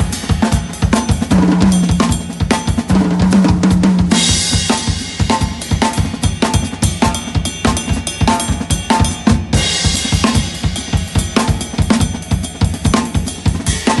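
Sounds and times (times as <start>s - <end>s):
drum kit playing: 0.0s - 14.0s.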